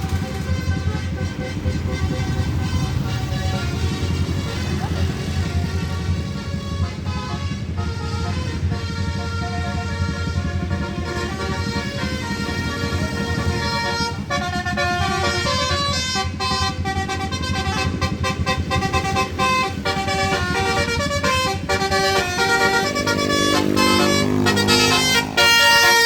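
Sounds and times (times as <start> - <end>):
bus engine running: 0.0 - 26.0
bus horn playing a tune: 0.0 - 26.0.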